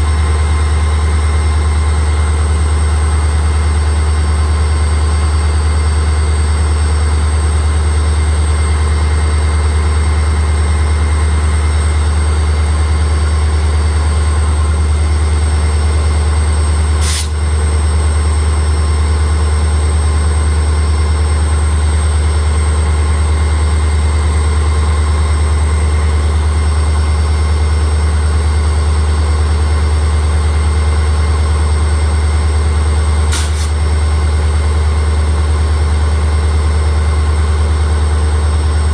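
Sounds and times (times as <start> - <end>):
diesel locomotive engine humming: 0.0 - 38.9.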